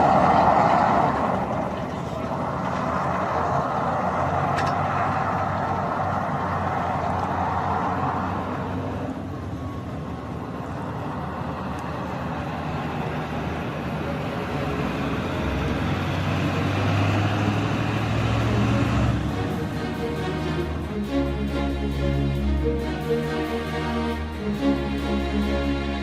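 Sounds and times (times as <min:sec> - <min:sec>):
heavy truck engine drone: 0:00.0 - 0:26.0
road noise: 0:00.0 - 0:26.0.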